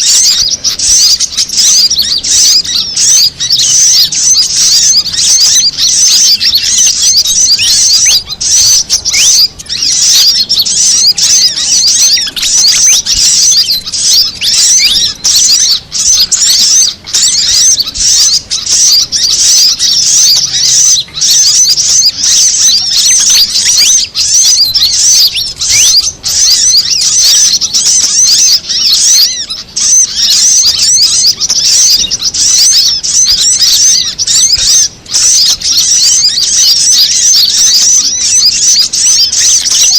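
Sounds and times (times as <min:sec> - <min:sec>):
high twittering bird chirps: 0:00.0 - 0:39.9.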